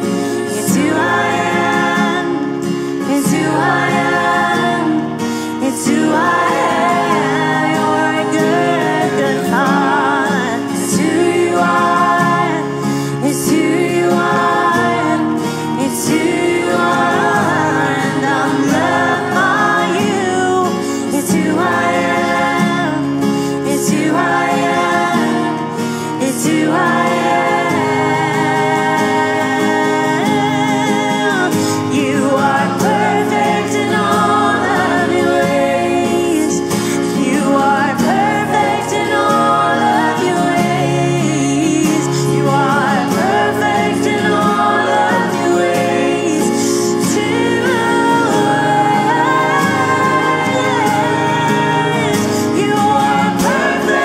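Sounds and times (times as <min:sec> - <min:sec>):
acoustic guitar: 0:00.0 - 0:54.0
backing singers: 0:00.0 - 0:54.0
woman singing: 0:00.0 - 0:54.0.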